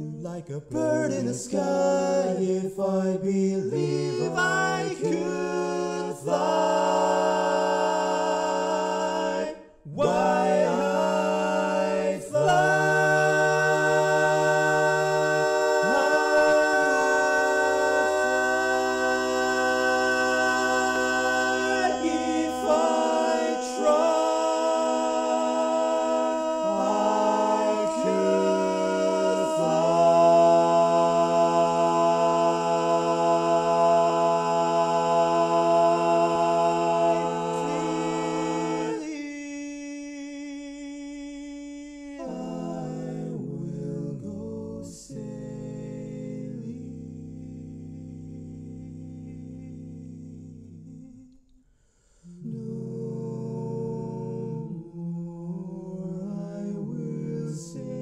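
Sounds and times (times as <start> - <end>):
a cappella harmony singing: 0.0 - 58.0.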